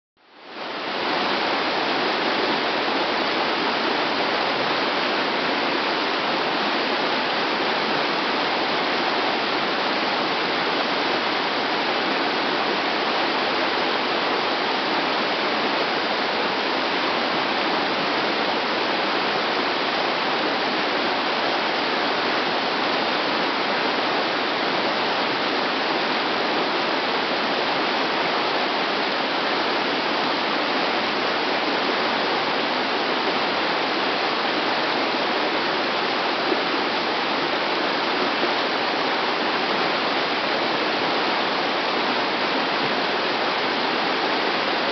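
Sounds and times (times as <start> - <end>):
creek water rushing: 0.2 - 44.9.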